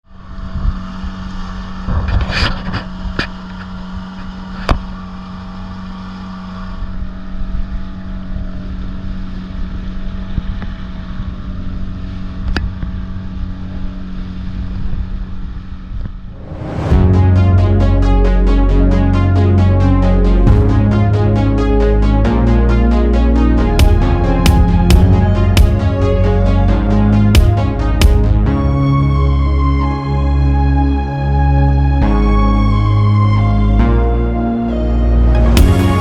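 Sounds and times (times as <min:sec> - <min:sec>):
boat motor humming: 0:02.7 - 0:36.0.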